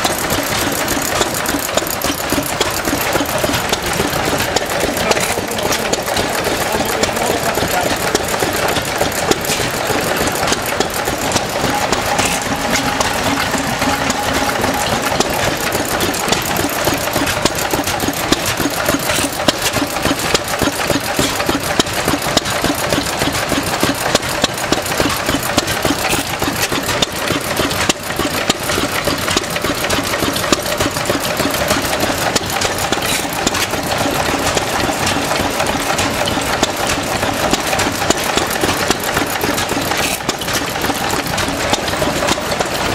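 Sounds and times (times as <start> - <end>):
other old engines running: 0.0 - 42.9
stationary engine clattering: 0.0 - 42.9.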